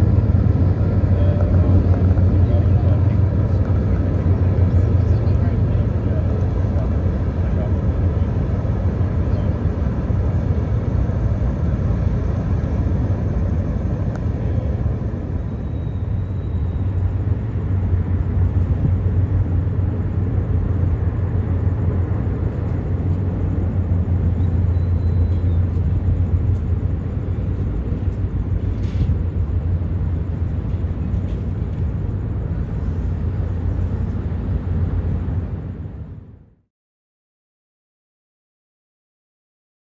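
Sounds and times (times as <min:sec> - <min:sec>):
ferry engines rumbling: 0:00.0 - 0:36.6.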